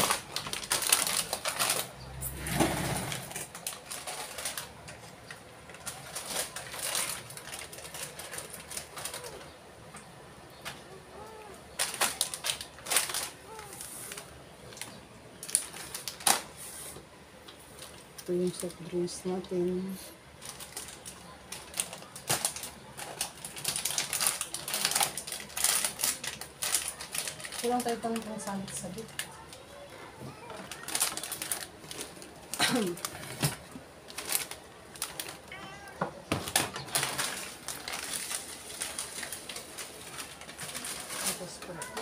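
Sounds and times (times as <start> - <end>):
plastic wrappers crinkling: 0.0 - 16.9, 17.5 - 42.0
plastic snack packets rustling: 0.0 - 42.0.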